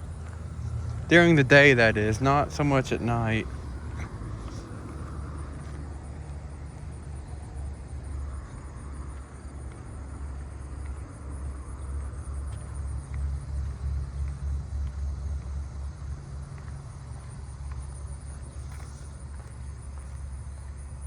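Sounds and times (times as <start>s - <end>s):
high-pitched insect chorus: 0.0s - 21.0s
low uneven rumble: 0.0s - 21.0s.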